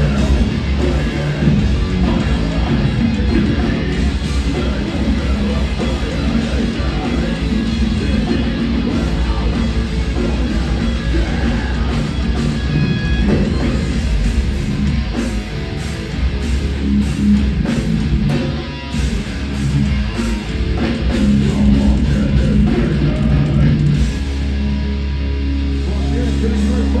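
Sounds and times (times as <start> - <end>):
drum kit: 0.0 - 24.9, 25.6 - 27.0
distorted electric guitars: 0.0 - 27.0
live heavy metal band: 0.0 - 27.0.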